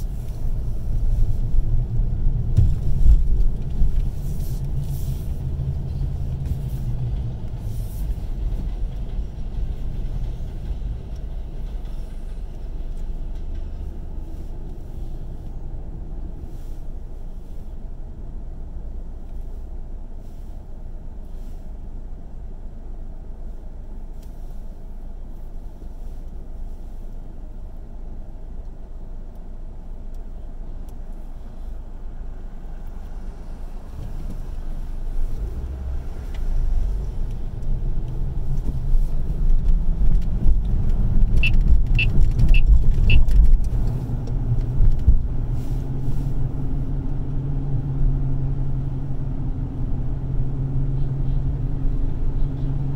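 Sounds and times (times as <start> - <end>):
road rumble: 0.0 - 52.9.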